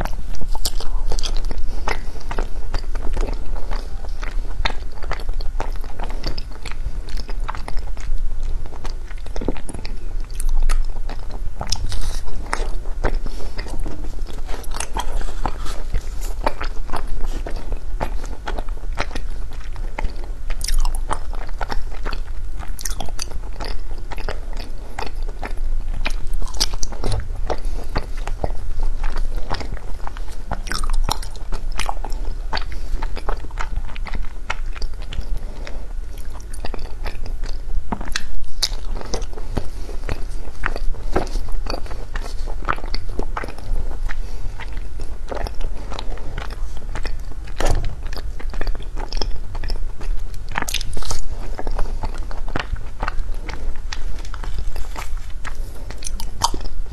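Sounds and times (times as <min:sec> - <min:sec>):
ice being bitten and chewed: 0:00.0 - 0:56.9.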